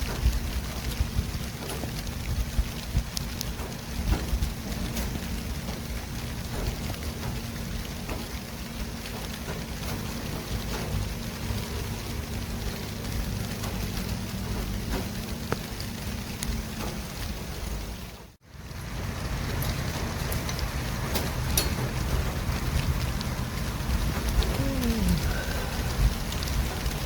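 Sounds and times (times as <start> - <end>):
traffic noise with low rumble: 0.0 - 27.0.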